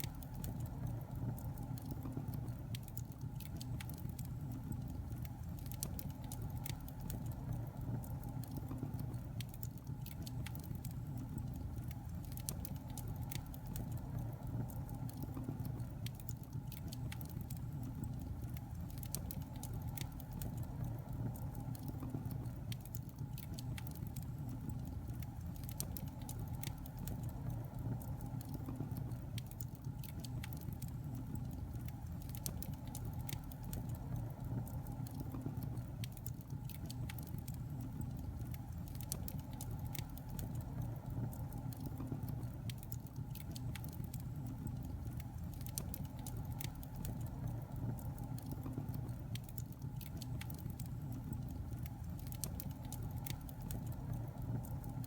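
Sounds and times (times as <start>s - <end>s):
burning logs crackling: 0.0s - 55.0s
low rumble of fire: 0.0s - 55.0s.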